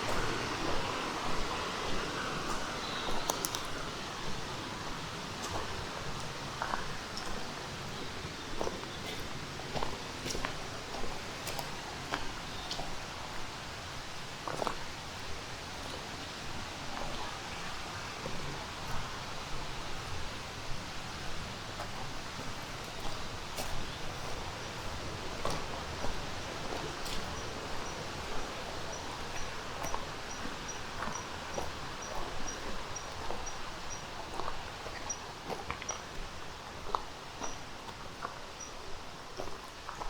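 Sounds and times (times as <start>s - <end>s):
flowing water: 0.0s - 40.0s
footsteps on forest trail: 0.0s - 40.0s.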